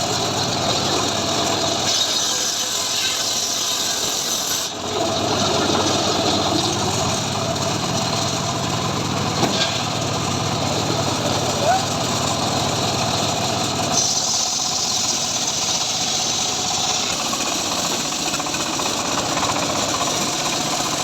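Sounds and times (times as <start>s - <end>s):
sawmill motor and blade: 0.0s - 21.0s.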